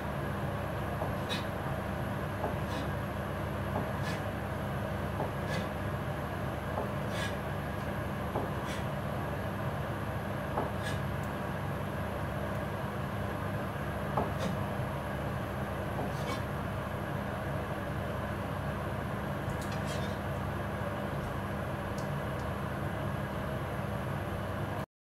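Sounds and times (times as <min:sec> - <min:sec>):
steady low hum: 0:00.0 - 0:24.8.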